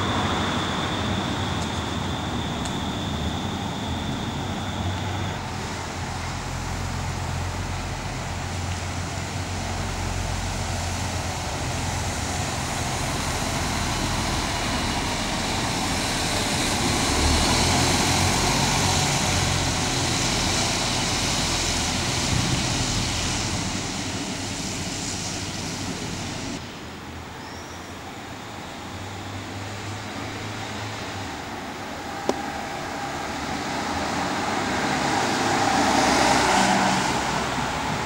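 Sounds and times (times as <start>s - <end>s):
bus engine and road noise: 0.0s - 38.0s
street sound: 0.0s - 38.0s.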